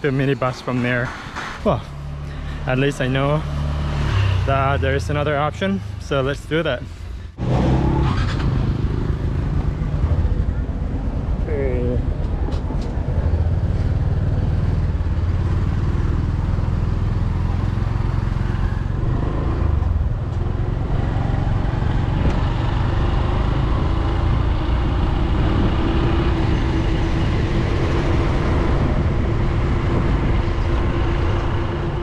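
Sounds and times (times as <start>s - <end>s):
road and wind noise: 0.0s - 32.0s
traffic: 0.0s - 32.0s.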